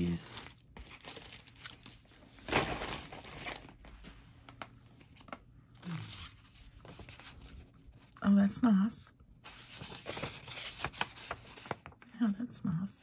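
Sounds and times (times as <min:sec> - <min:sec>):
paper rustling and crinkling: 0:00.0 - 0:08.2, 0:09.4 - 0:12.1.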